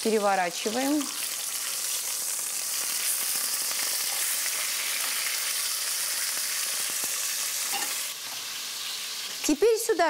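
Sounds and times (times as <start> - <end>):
pork chops sizzling in hot oil: 0.0 - 10.0.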